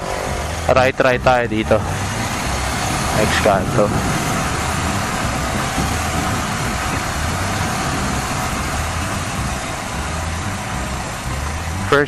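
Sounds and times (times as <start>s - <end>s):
motorcycle engine rumble: 0.0s - 12.0s
wind noise on microphone: 0.0s - 12.0s.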